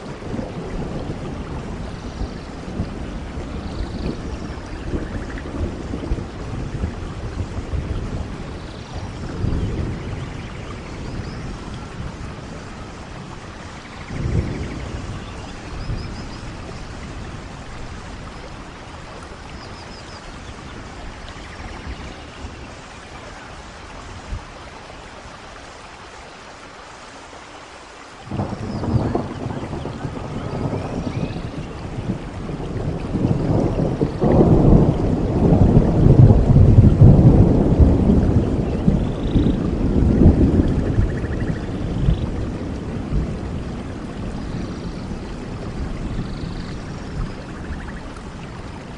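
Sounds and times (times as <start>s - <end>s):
rain falling in a forest: 0.0s - 48.9s.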